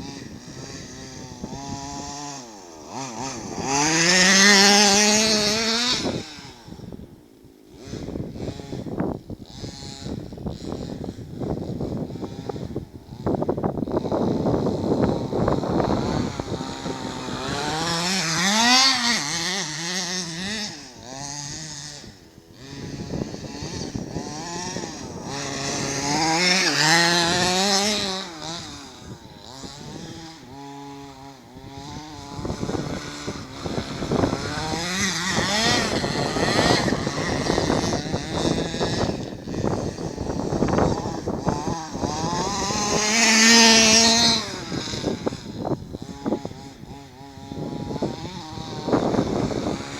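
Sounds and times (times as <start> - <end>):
small two-stroke engine revving: 0.0 - 49.9.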